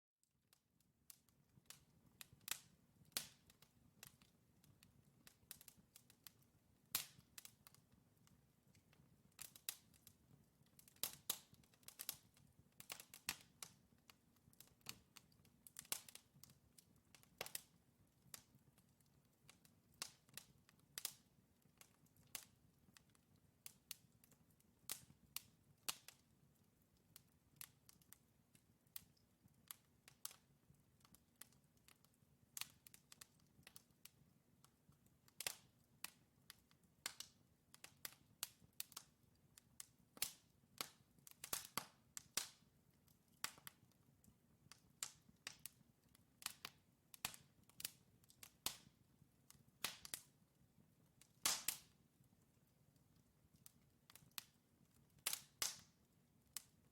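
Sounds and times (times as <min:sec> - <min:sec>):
wood fire crackling and popping: 0:00.6 - 0:56.9.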